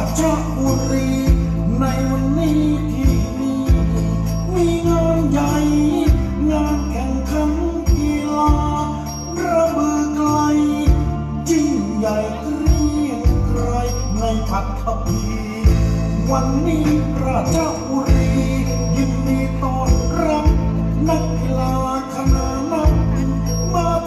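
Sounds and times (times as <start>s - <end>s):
music over stadium sound system: 0.0s - 24.0s.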